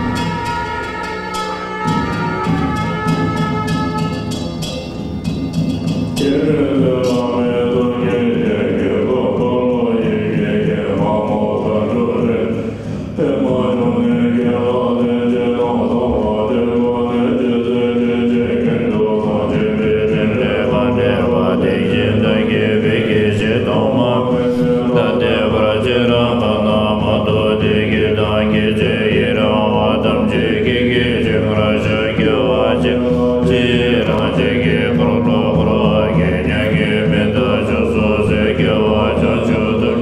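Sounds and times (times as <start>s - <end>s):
instrumental music: 0.0s - 40.0s
mantra chanted melodically: 6.2s - 40.0s.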